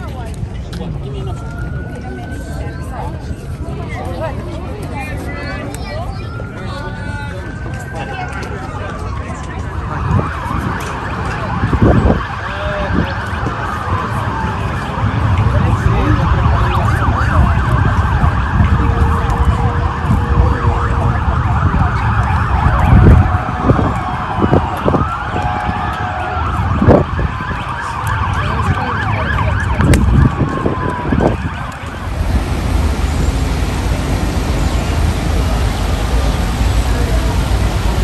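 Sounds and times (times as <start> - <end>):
emergency sirens wailing: 0.0 - 38.0
wind rumble on microphone: 0.0 - 38.0.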